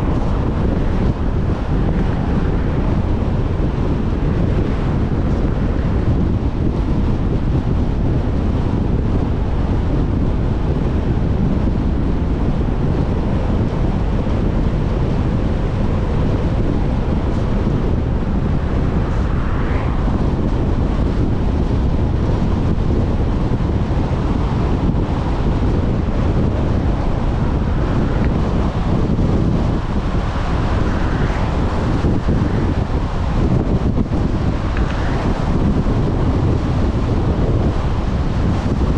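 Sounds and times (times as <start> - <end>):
vehicle road noise: 0.0 - 38.9
wind buffeting microphone: 0.0 - 38.9.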